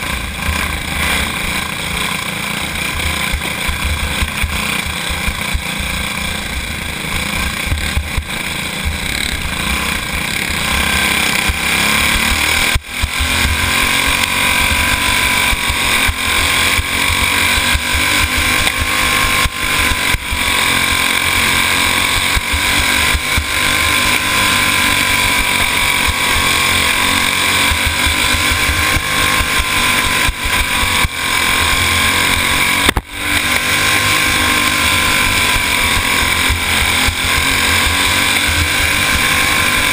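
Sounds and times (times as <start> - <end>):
go-kart engine at racing speed: 0.0 - 39.9.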